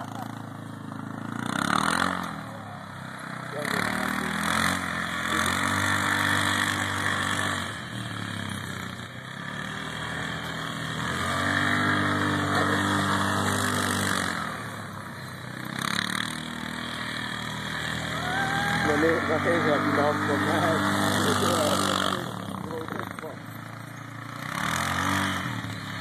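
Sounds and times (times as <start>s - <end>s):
quad engine revving: 0.0s - 26.0s.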